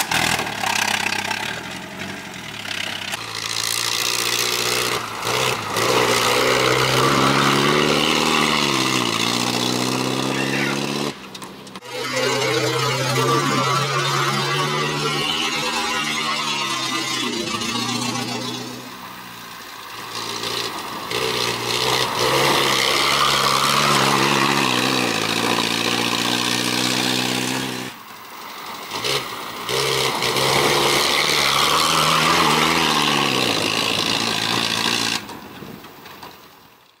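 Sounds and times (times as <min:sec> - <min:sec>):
car engine revving: 0:00.0 - 0:35.4.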